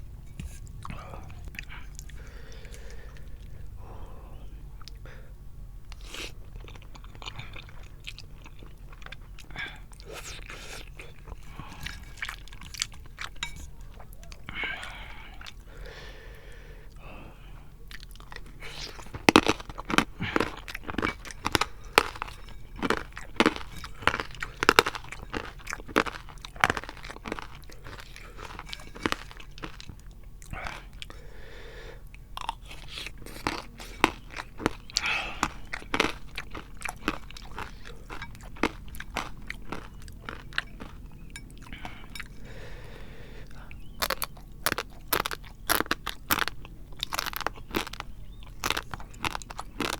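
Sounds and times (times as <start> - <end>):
person crunching and chewing: 0.0 - 5.0, 5.9 - 49.9.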